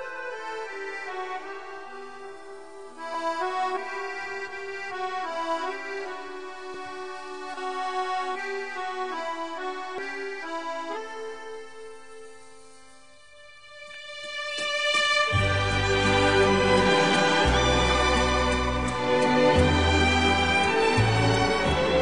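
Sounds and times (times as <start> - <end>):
instrumental music: 0.0 - 22.0.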